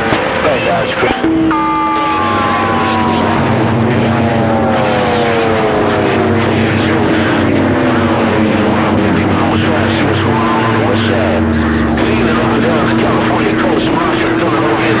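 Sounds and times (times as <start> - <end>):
steady hum: 1.0 - 15.0
whistling heterodyne tones: 1.0 - 15.0.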